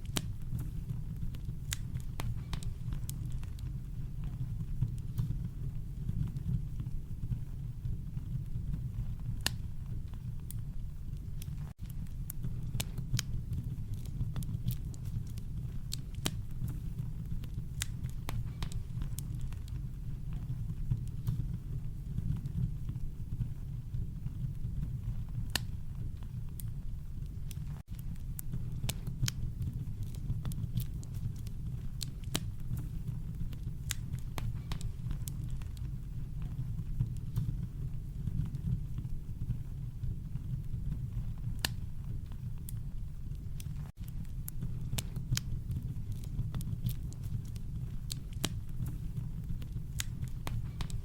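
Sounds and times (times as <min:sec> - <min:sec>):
campfire crackling and popping: 0:00.0 - 0:51.0
low fire rumble: 0:00.0 - 0:51.0.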